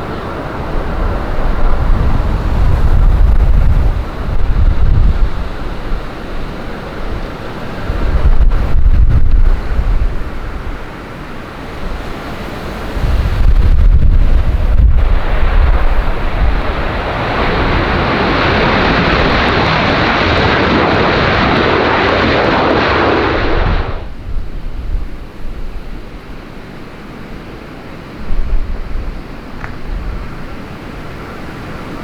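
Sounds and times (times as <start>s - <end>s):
wind rumbling on microphone: 0.0s - 26.7s, 28.2s - 32.0s
airliner engines passing: 0.0s - 32.0s.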